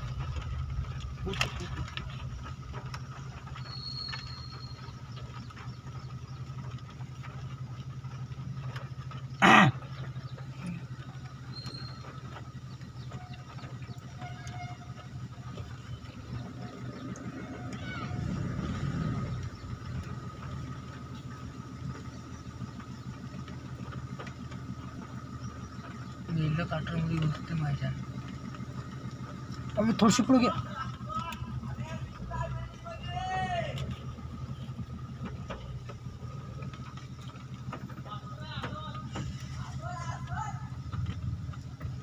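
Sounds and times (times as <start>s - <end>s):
engine humming with pulsing: 0.0s - 42.0s.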